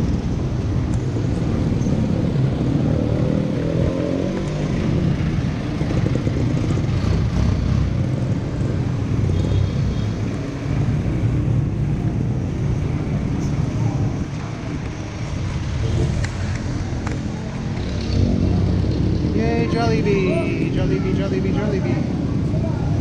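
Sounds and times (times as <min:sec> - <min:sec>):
busy street traffic: 0:00.0 - 0:23.0.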